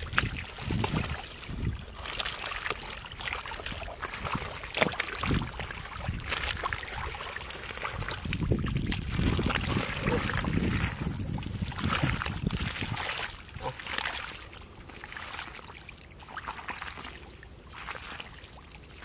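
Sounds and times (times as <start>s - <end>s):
hands squelching in wet mud: 0.0s - 19.0s
water splashing: 0.0s - 19.0s.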